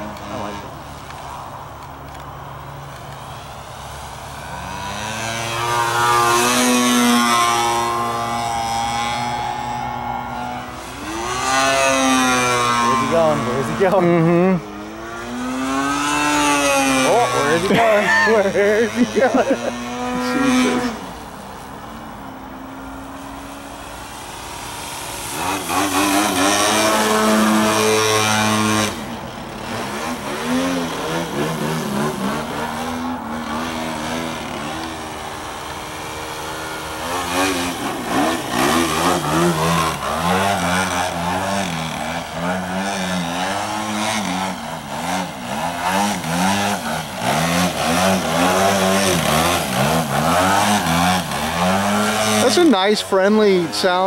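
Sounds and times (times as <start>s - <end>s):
model plane engine in flight: 0.0s - 54.0s.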